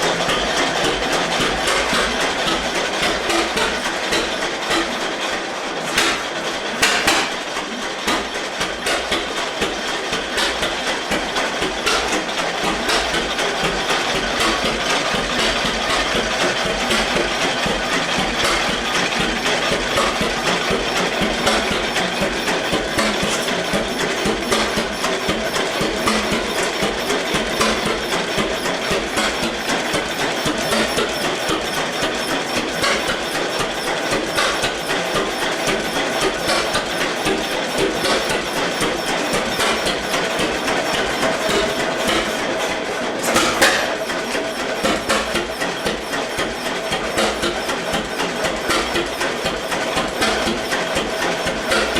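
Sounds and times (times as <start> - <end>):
tractor engine knocking: 0.0 - 51.9.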